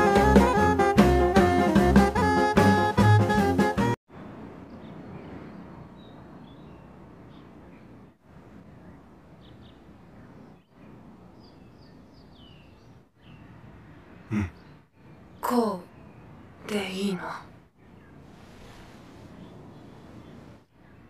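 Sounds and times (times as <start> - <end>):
soft background noise: 4.1 - 21.0.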